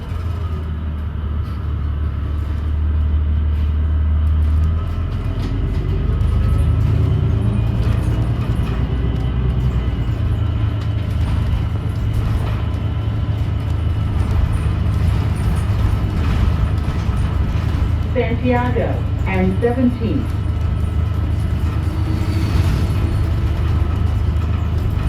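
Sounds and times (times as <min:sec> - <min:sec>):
bus engine drone: 0:00.0 - 0:25.0.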